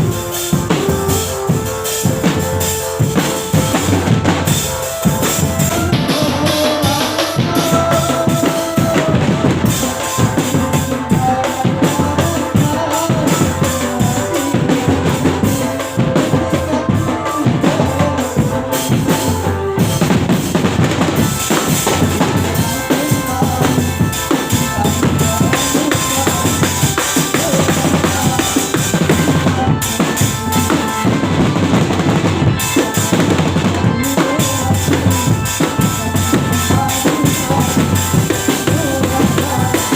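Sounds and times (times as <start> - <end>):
bass drum and snare beat: 0.0 - 39.9
live band music: 0.0 - 39.9.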